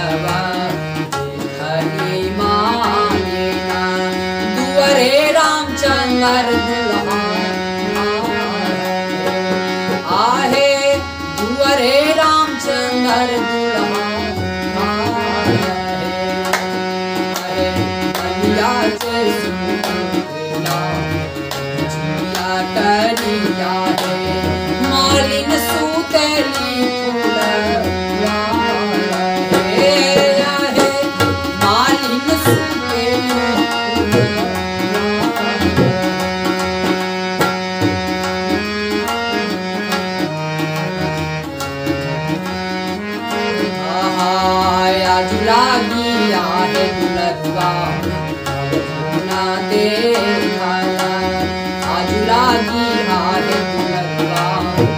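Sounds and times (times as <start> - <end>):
harmonium melody: 0.0 - 54.9
tabla rhythm: 0.0 - 54.9.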